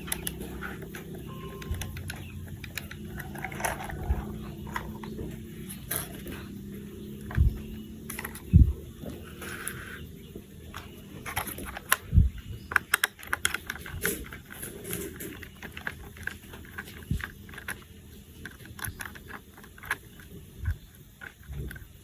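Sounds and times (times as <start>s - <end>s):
plastic toy parts clicking: 0.0s - 6.6s, 7.2s - 8.5s, 10.7s - 22.0s.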